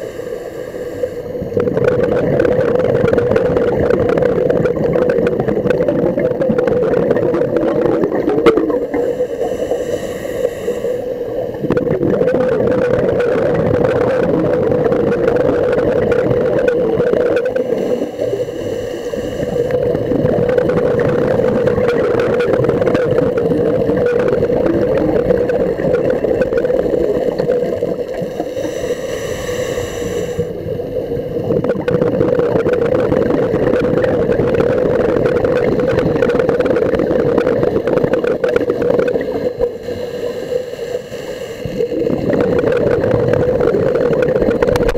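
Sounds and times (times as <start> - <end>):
underwater drone: 0.0 - 44.9.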